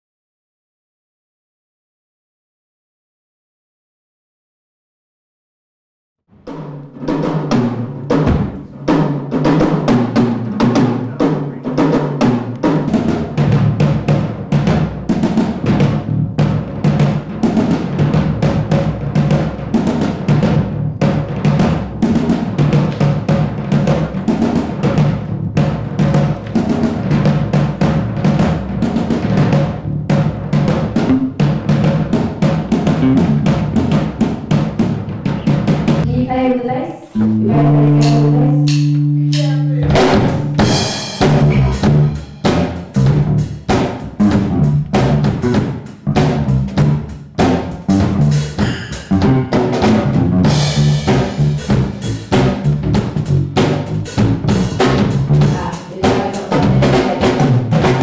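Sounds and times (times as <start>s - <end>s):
fast drums and percussion: 6.4s - 58.0s
bass line: 9.9s - 36.5s, 37.2s - 55.8s, 56.5s - 58.0s.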